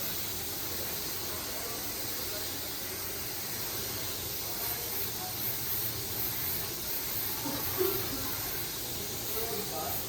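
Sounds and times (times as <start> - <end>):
paint spray gun hissing: 0.0 - 10.0.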